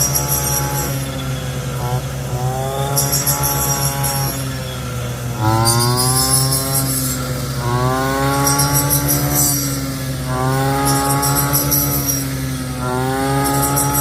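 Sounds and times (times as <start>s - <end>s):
small petrol engine revving: 0.0s - 14.0s.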